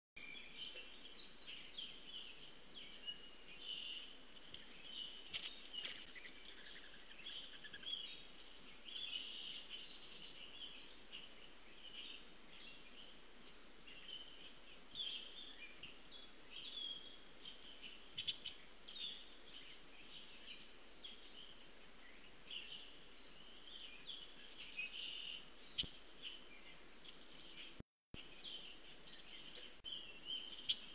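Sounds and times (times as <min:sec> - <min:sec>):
songbirds chirping and singing: 0:00.2 - 0:30.9.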